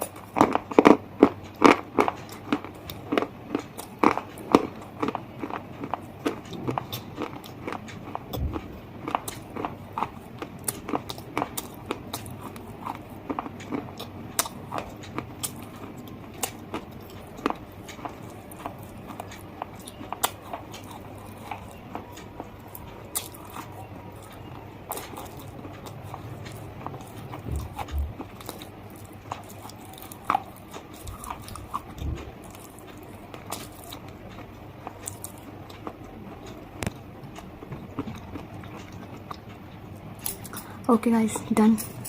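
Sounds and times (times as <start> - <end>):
crunching and chewing: 0.0 - 40.9.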